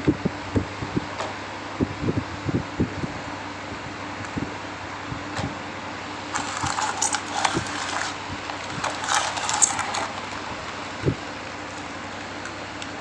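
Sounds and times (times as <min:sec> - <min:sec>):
electric fan motor hum: 0:00.0 - 0:13.0.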